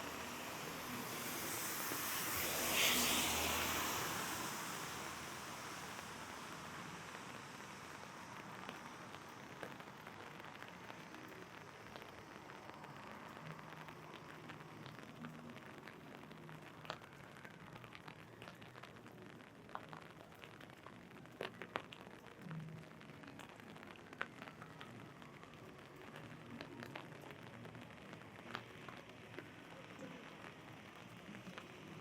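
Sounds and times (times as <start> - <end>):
rain pattering on an umbrella: 0.0 - 32.0.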